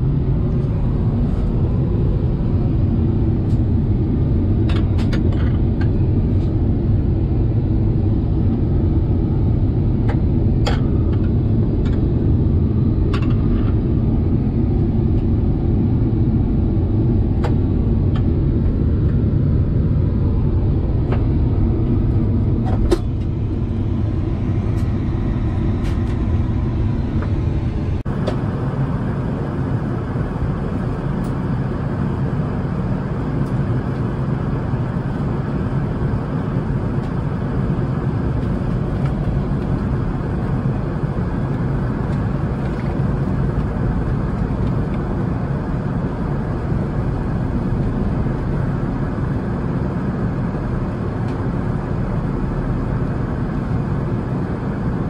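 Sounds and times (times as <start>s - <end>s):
airplane cabin noise: 0.0s - 55.0s.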